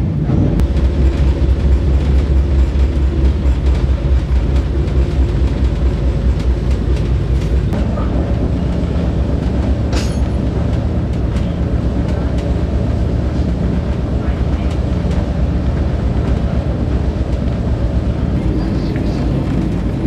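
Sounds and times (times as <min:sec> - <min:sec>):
train carriage rumbling on rails: 0:00.0 - 0:20.0.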